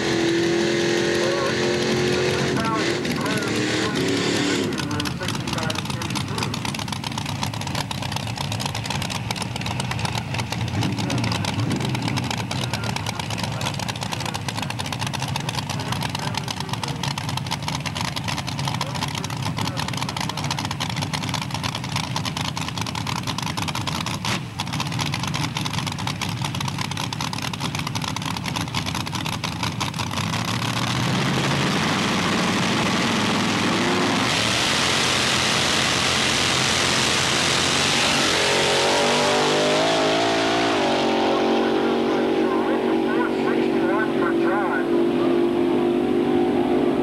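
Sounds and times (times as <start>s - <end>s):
cars racing at full throttle: 0.0s - 47.0s
dragster engines idling and revving: 0.0s - 47.0s.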